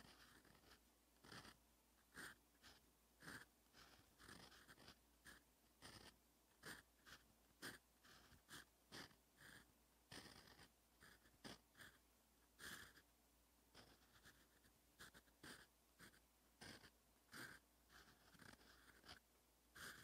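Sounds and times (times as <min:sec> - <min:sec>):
pen nib scratching on paper: 0:00.0 - 0:13.1, 0:13.7 - 0:20.0.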